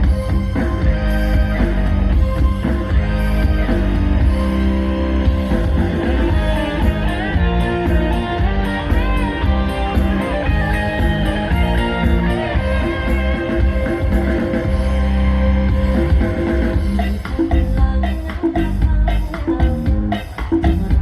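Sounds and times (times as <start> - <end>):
guitar-led band music: 0.0 - 21.0.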